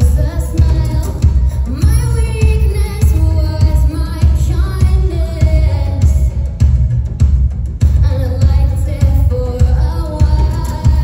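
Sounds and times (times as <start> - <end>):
woman singing lead: 0.0 - 7.2, 7.8 - 11.0
heavy bass beat: 0.0 - 11.0
live pop band: 0.0 - 11.0.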